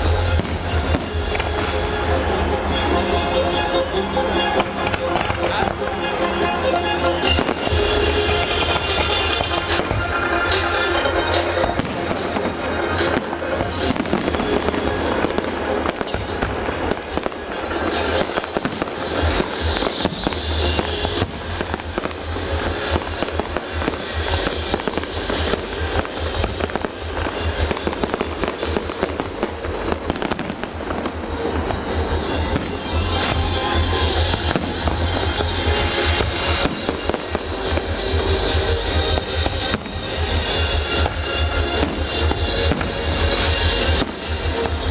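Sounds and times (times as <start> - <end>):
fireworks bursting and crackling: 0.0 - 44.9
music playing: 0.0 - 44.9.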